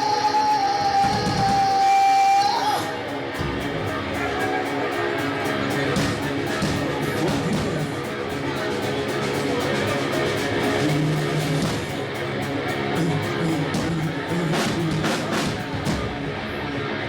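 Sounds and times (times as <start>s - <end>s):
rhythmic strokes: 0.0s - 16.7s
band playing guitar rock music: 0.0s - 17.0s.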